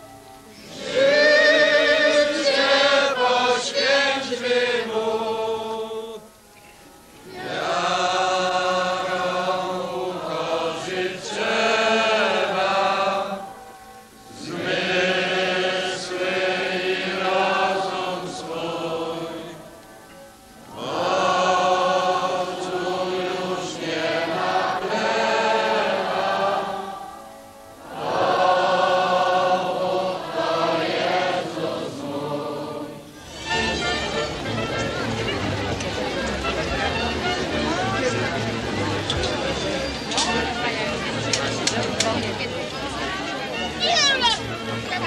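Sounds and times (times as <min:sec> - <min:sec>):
congregation singing a hymn: 0:00.0 - 0:06.5, 0:07.2 - 0:43.4.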